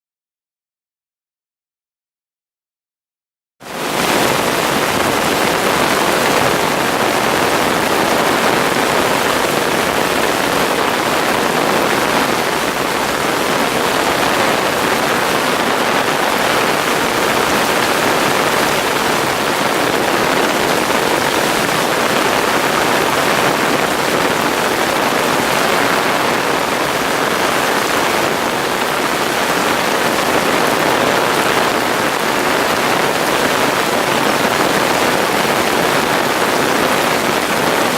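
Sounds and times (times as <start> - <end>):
heavy rain on surfaces: 3.6 - 37.9.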